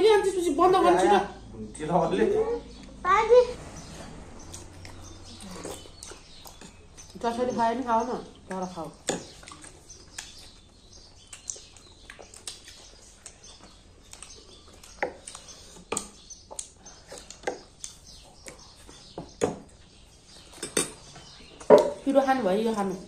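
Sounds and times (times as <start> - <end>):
people eating with clicks and smacks: 0.0 - 3.0, 3.6 - 23.0.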